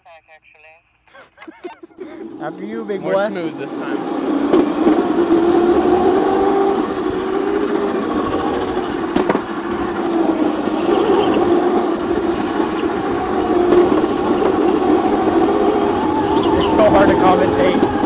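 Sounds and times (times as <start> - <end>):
electric kart motor whining: 2.0 - 18.0
wind and tyre noise: 2.2 - 18.0.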